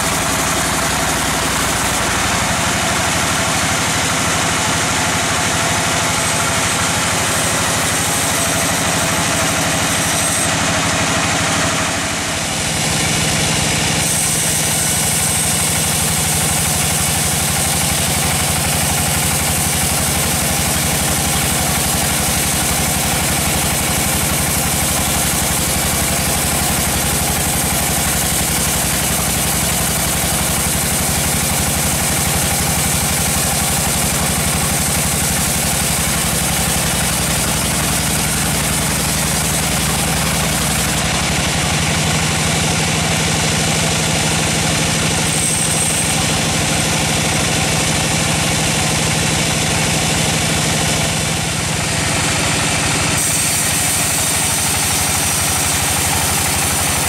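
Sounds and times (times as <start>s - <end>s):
band saw cutting a log: 0.0s - 57.0s.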